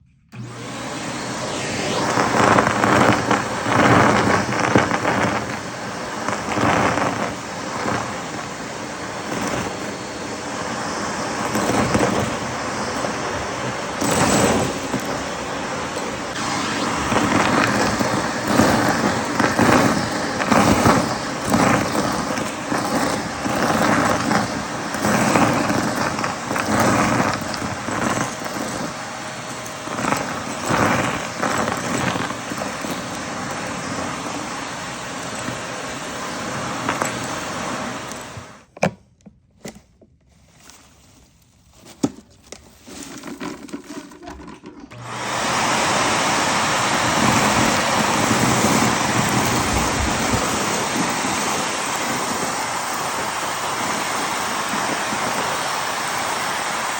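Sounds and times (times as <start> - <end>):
vacuum cleaner running: 0.0 - 38.9, 41.9 - 56.9.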